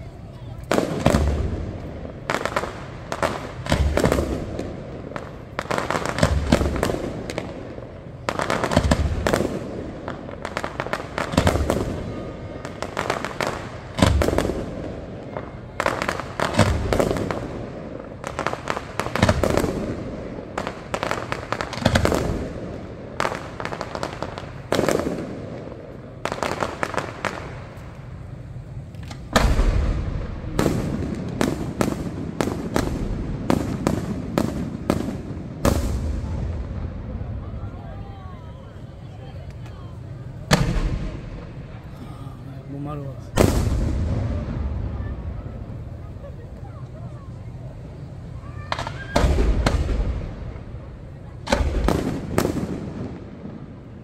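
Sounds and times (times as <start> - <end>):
firework booms: 0.0 - 38.2, 40.2 - 42.0, 42.7 - 46.7, 47.4 - 54.0
firework pops and crackles: 0.5 - 37.2, 39.4 - 42.0, 43.3 - 45.1, 45.7 - 54.0.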